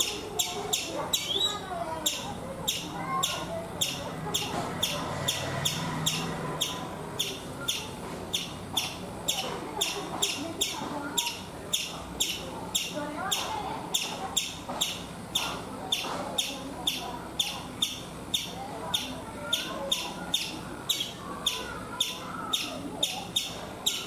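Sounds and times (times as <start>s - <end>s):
squirrel alarm chirps: 0.0s - 24.0s.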